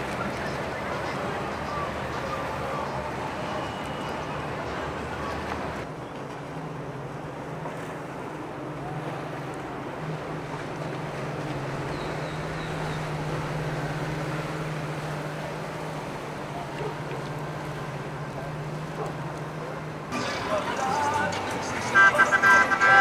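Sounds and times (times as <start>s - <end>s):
motorboat engine humming: 0.0s - 23.0s
water wash: 0.0s - 23.0s.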